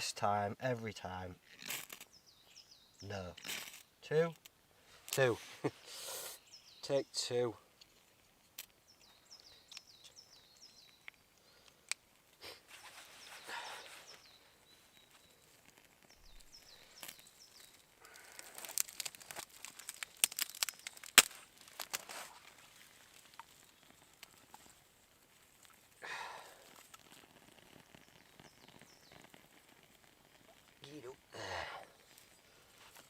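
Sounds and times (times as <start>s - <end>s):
small birds chirping: 0.0s - 33.0s
kindling crackling and snapping: 1.3s - 2.2s, 3.1s - 5.5s, 7.7s - 33.0s.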